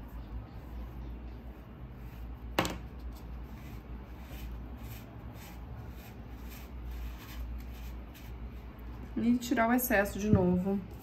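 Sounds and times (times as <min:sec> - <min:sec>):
sponge scrubbing clay bowl: 0:00.0 - 0:09.0.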